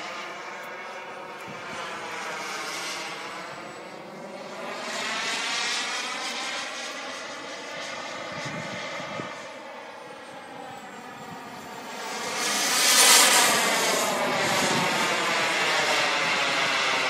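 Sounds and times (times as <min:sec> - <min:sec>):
model jet turbine rushing and whining: 0:00.0 - 0:17.0.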